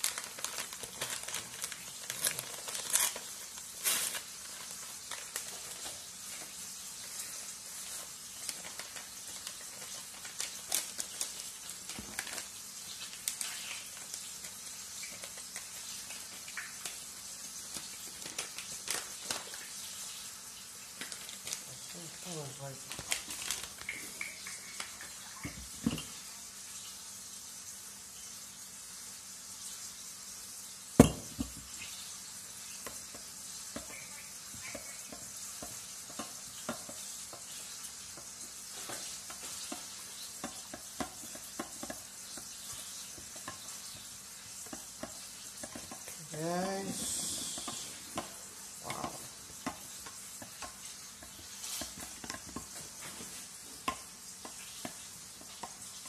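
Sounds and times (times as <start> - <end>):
steady sizzle: 0.0 - 56.0.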